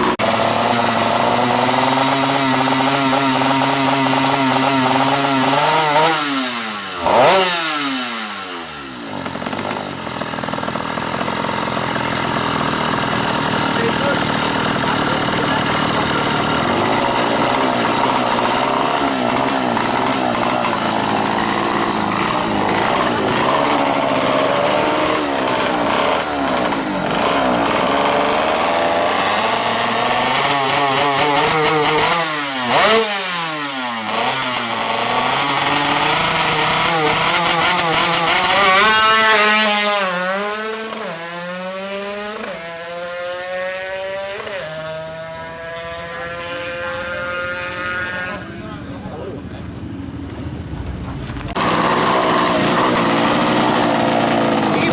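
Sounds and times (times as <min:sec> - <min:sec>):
two-stroke motorcycle engine revving: 0:00.0 - 0:54.9.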